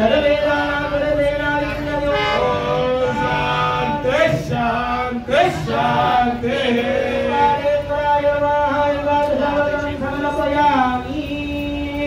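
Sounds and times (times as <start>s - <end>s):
man singing devotional chant: 0.0s - 12.0s.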